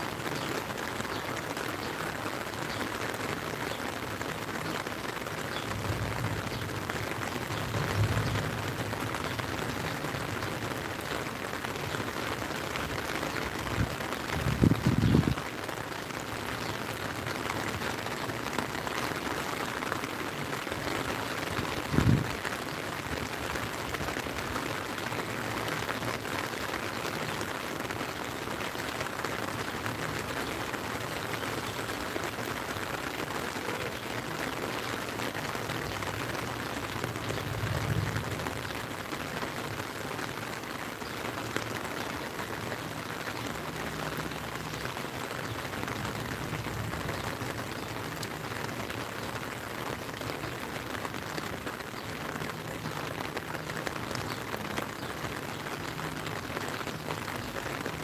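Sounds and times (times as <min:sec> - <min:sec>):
rain on lake: 0:00.0 - 0:58.0
rain on umbrella: 0:00.0 - 0:58.0.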